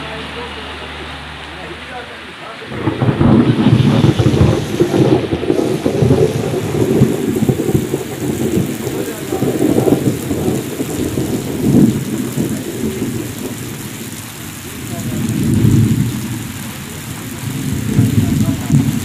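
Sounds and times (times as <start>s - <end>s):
heavy rain on flooded road: 0.0s - 19.0s
low rumble of thunder: 2.7s - 19.0s.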